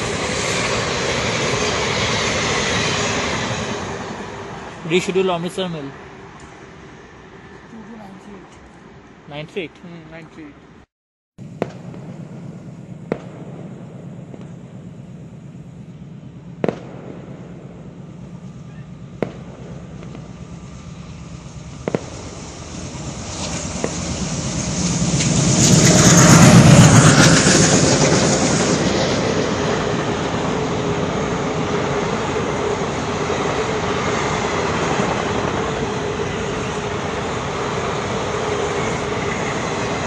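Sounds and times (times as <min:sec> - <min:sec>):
diesel locomotive passing: 0:00.0 - 0:10.8, 0:14.2 - 0:40.0.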